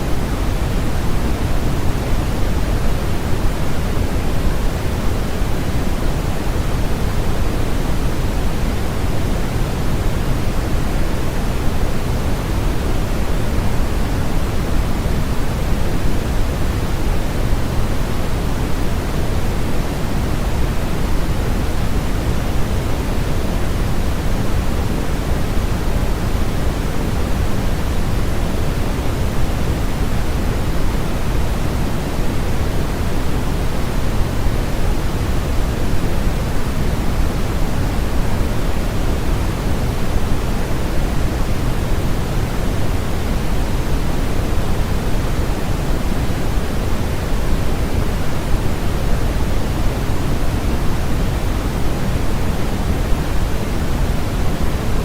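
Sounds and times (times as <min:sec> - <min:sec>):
steady low hiss noise: 0:00.0 - 0:55.0.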